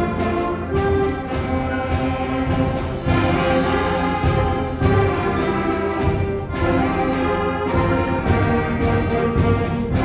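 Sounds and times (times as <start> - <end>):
concert band playing chords: 0.0 - 10.0.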